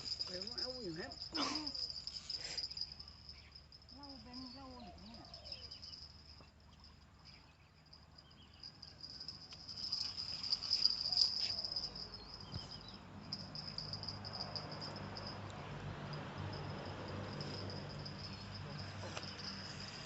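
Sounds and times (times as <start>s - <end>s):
insects chirring: 0.0s - 15.6s, 16.2s - 20.0s.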